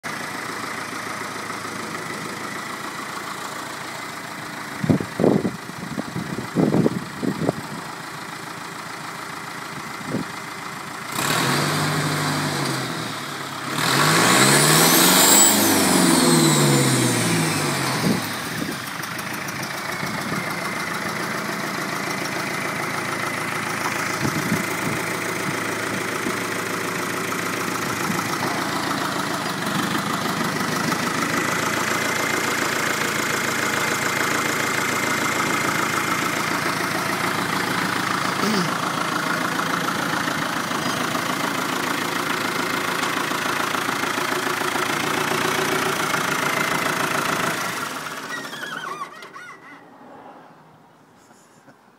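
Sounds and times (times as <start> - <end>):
diesel engine idling and revving: 0.0 - 51.7.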